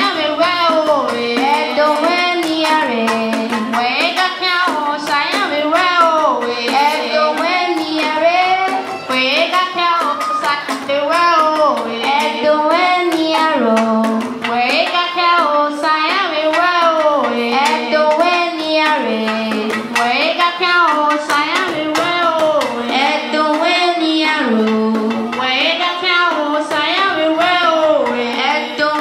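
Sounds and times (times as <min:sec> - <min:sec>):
percussion steady rhythm: 0:00.0 - 0:29.0
person singing gliding melody: 0:00.0 - 0:29.0.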